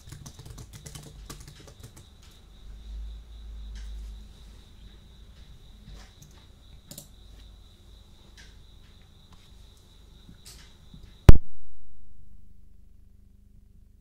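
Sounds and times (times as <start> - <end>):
crickets chirping: 0.0 - 11.3.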